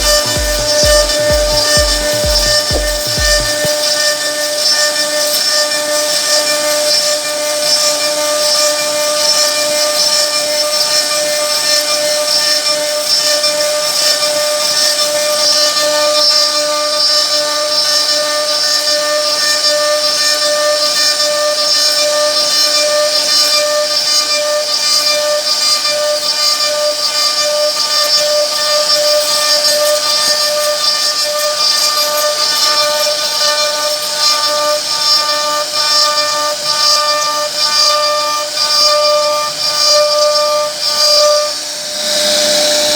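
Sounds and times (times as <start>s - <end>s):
bit carving wood hiss: 0.0s - 42.9s
router spindle whine: 0.0s - 42.9s.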